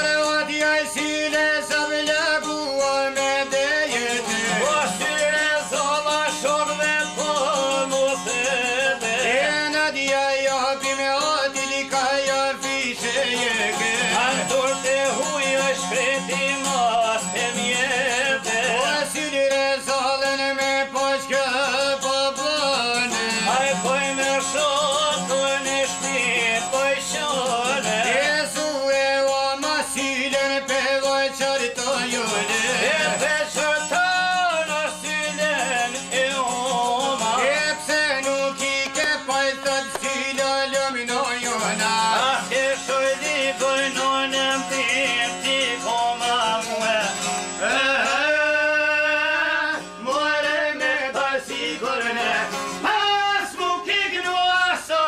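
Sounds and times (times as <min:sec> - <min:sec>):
plucked lutes: 0:00.0 - 0:54.8
man singing folk song: 0:00.0 - 0:55.0.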